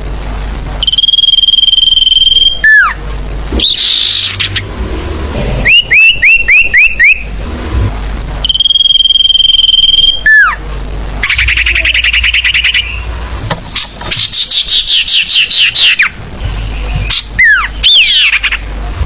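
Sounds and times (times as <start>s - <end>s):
songbird song: 0.8s - 3.0s, 3.6s - 4.7s, 5.5s - 7.5s, 8.4s - 10.6s, 11.2s - 18.9s.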